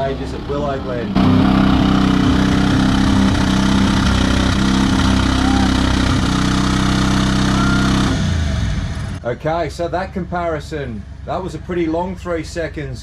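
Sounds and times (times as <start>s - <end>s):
car engine running hard: 0.0s - 12.4s.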